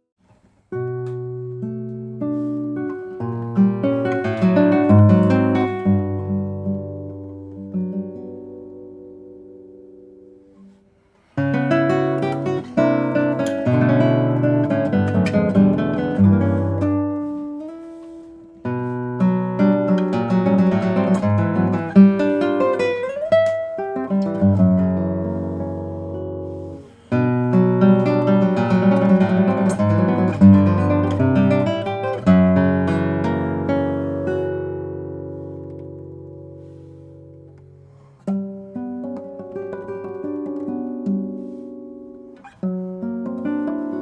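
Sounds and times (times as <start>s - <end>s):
classical guitar played solo: 0.2s - 44.0s.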